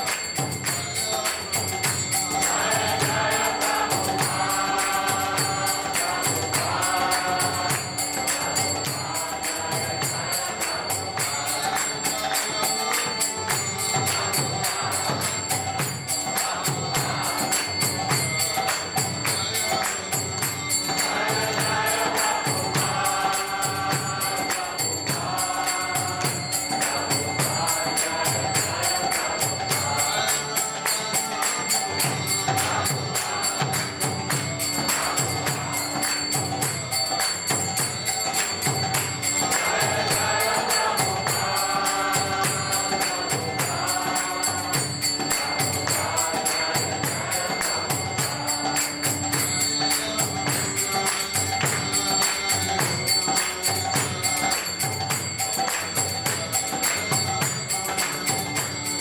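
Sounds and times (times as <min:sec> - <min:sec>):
small hand cymbals struck: 0:00.0 - 0:59.0
voices chanting to a steady beat: 0:00.0 - 0:59.0.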